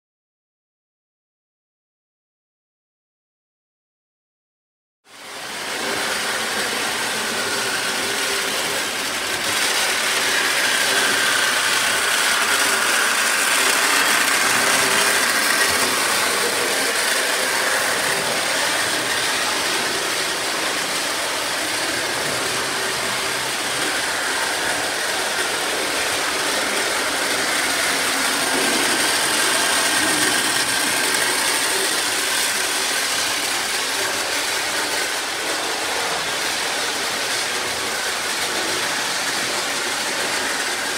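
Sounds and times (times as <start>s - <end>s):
model train motor whine: 5.1s - 40.9s
metal wheels clattering on track: 5.8s - 40.9s.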